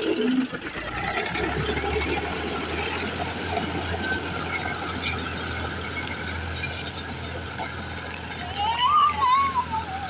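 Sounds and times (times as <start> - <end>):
rotary tiller churning soil: 0.0 - 8.8
tractor engine running: 0.0 - 10.0.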